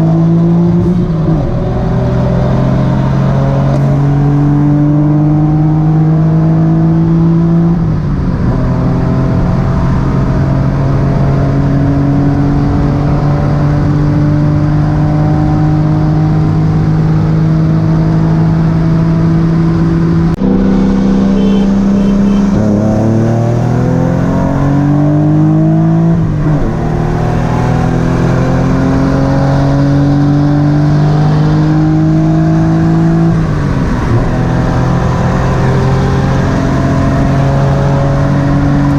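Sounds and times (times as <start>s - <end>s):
car engine under full throttle: 0.0s - 38.9s.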